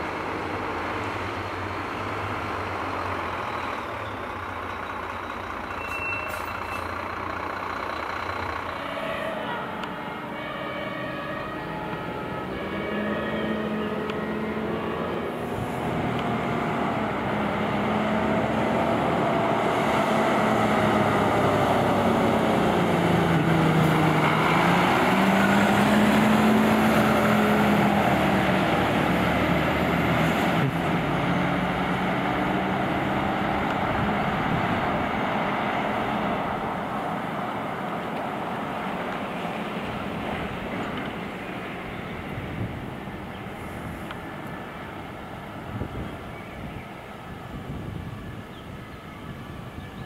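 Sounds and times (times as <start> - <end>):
diesel truck engine driving past: 0.0 - 50.0.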